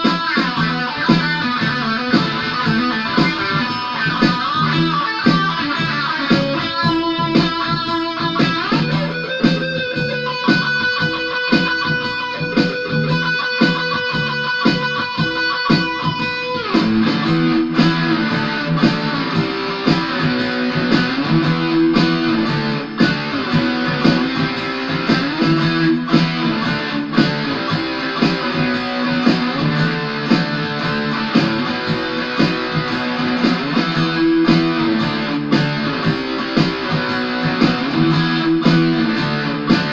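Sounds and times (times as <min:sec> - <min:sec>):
electric guitar through amplifier: 0:00.0 - 0:39.9.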